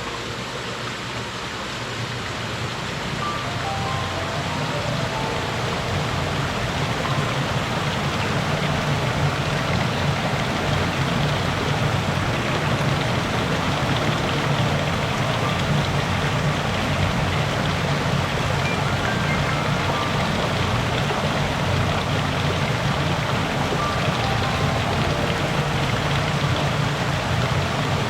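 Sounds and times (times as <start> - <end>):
water splashing down small fall: 0.0 - 28.0.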